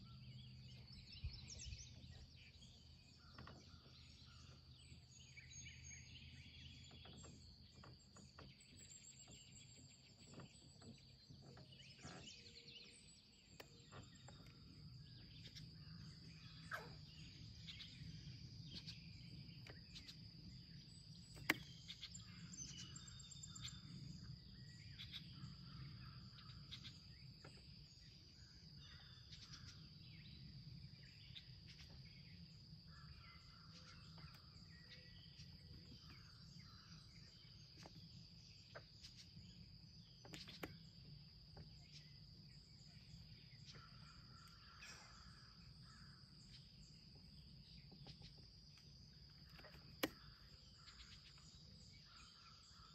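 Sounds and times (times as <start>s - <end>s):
soft bird calls: 0.0s - 52.9s.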